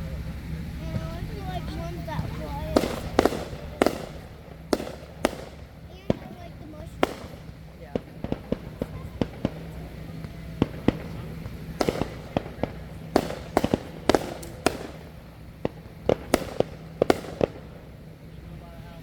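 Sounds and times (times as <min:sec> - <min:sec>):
fireworks going off: 0:00.0 - 0:19.0.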